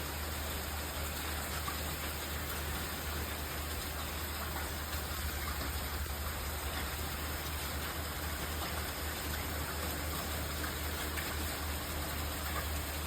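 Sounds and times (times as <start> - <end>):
steady rain falling: 0.0 - 13.0
steady low hum: 2.0 - 13.0.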